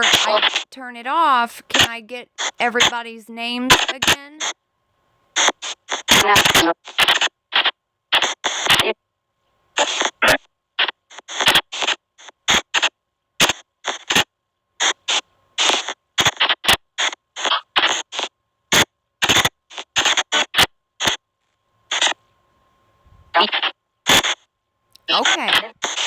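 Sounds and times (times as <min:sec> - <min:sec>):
short bursts of static: 0:00.0 - 0:04.6, 0:05.3 - 0:09.0, 0:09.7 - 0:21.2, 0:21.9 - 0:22.2, 0:23.3 - 0:24.5, 0:25.1 - 0:26.0.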